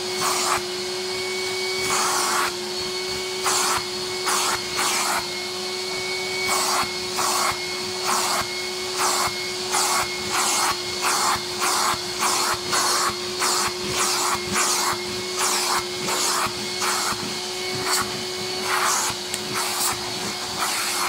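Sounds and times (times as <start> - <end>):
vacuum cleaner motor hum: 0.0 - 21.0
vacuum suction rushing: 1.4 - 21.0.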